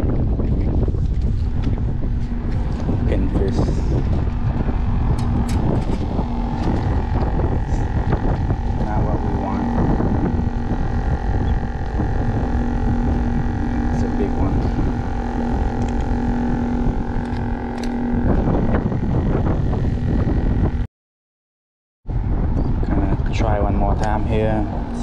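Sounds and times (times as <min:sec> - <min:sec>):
engine drone: 0:00.0 - 0:20.9, 0:22.1 - 0:25.0
held hum: 0:00.0 - 0:20.9, 0:22.1 - 0:25.0
wind noise on microphone: 0:00.0 - 0:20.9, 0:22.1 - 0:25.0.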